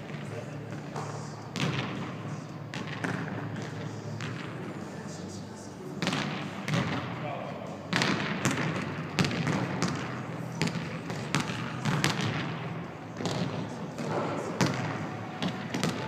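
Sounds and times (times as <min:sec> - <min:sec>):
basketball bouncing on gym floor: 0:00.8 - 0:04.6, 0:06.0 - 0:07.1, 0:07.9 - 0:16.0.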